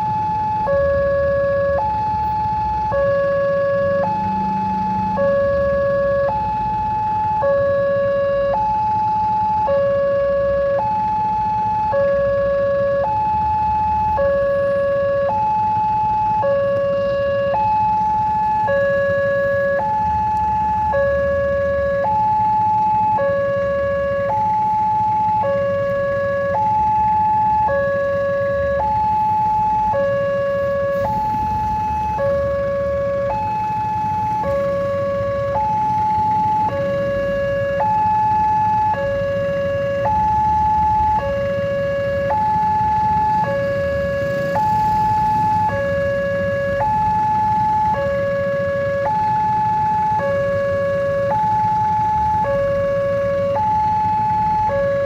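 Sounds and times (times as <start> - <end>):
road traffic rumble: 0.0 - 55.0
two-tone crossing alarm: 0.0 - 55.0.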